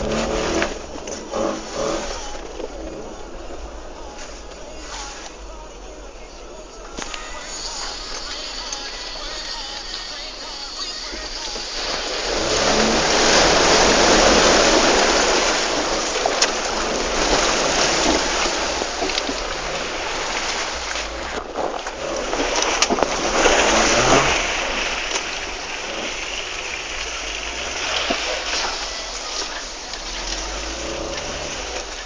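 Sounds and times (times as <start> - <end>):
engine revving: 0.0 - 5.7, 11.6 - 32.0
vehicle splashing through water: 0.0 - 32.0.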